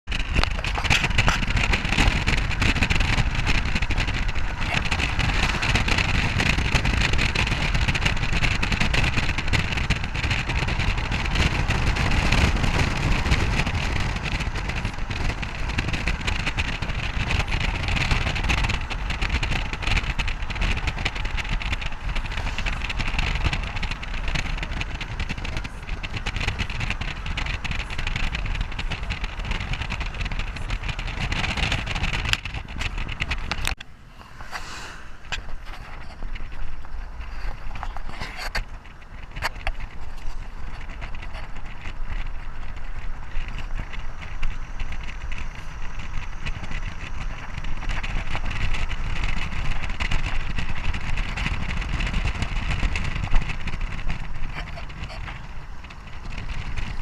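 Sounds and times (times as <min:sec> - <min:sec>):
vehicle road noise: 0:00.0 - 0:57.0.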